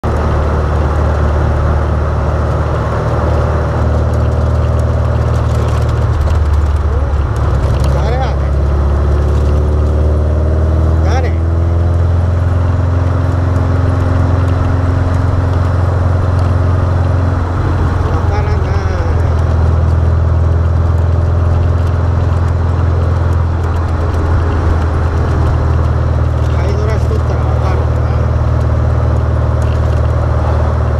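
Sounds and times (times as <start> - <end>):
car engine running steadily: 0.0 - 30.9
road noise: 0.0 - 30.9.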